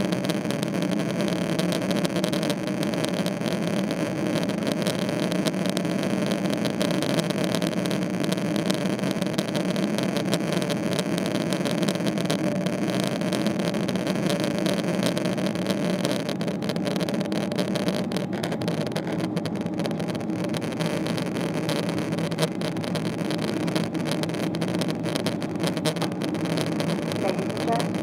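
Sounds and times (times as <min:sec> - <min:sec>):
airplane cabin engine rumble: 0:00.0 - 0:28.0.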